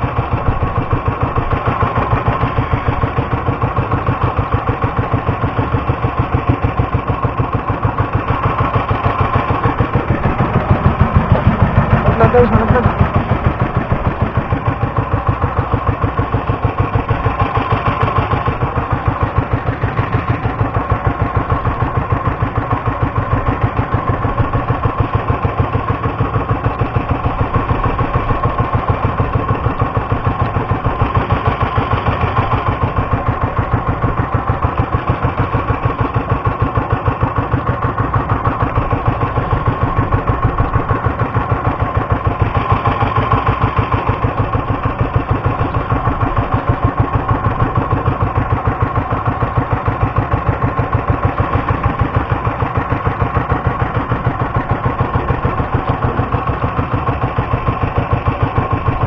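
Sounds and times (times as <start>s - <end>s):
small boat engine running: 0.0s - 59.0s.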